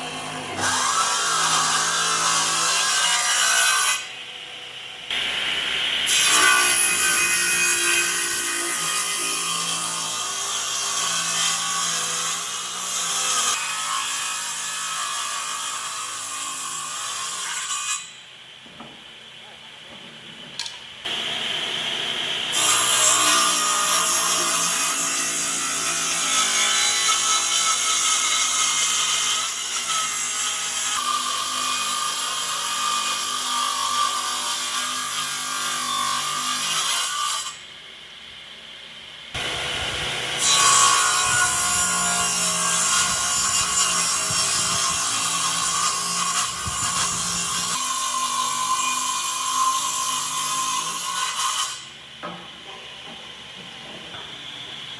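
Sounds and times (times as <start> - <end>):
power tool cutting wood: 0.0 - 4.3, 5.1 - 18.1, 21.0 - 37.6, 39.3 - 51.9.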